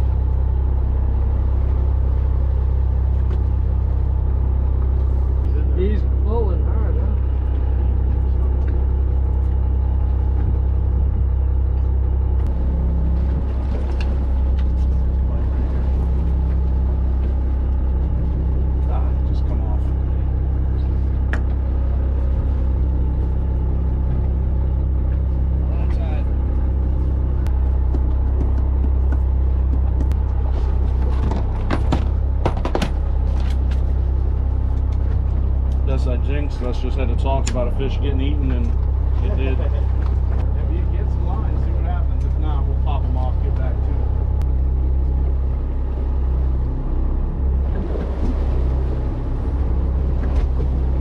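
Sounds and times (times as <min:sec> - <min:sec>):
boat engine drone: 0:00.0 - 0:51.0.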